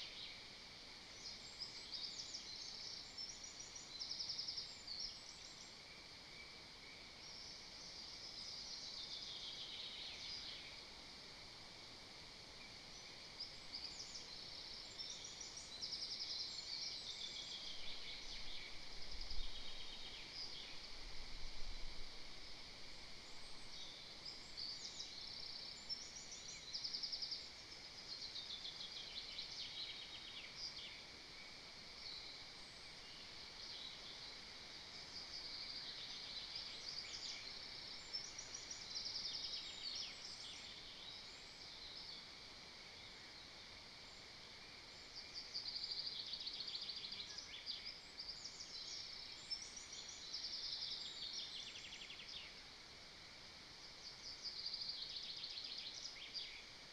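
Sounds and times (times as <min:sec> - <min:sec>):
songbirds singing: 0:00.0 - 0:56.9
steady hiss: 0:00.0 - 0:56.9.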